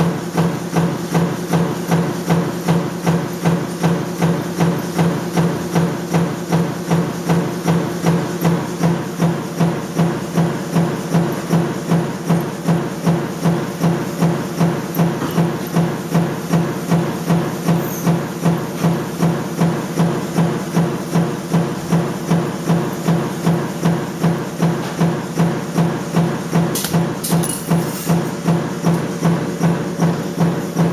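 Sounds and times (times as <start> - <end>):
metal-forming machine humming: 1.9 - 30.9.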